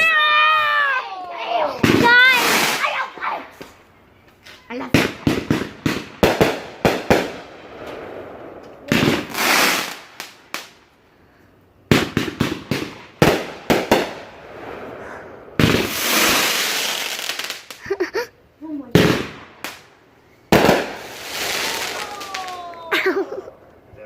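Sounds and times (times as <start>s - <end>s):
fireworks bangs: 0.0s - 3.8s, 4.7s - 11.0s, 11.8s - 17.9s, 18.8s - 23.3s
fireworks crackling: 0.0s - 24.0s.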